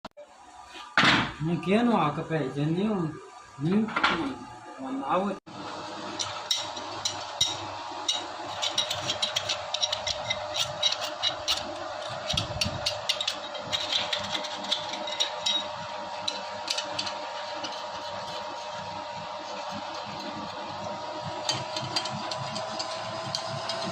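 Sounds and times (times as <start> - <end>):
machine humming: 1.6 - 23.9.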